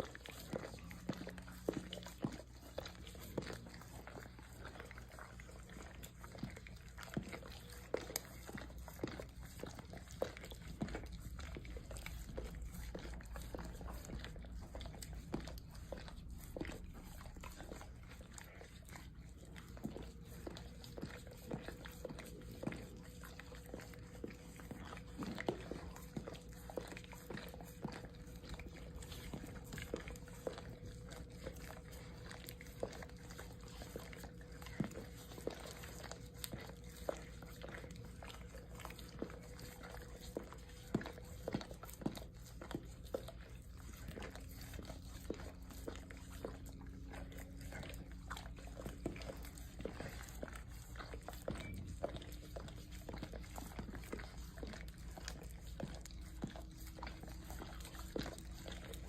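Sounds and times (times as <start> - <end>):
dogs licking wet smacking: 0.0 - 59.0
faint steady hum: 0.0 - 59.0.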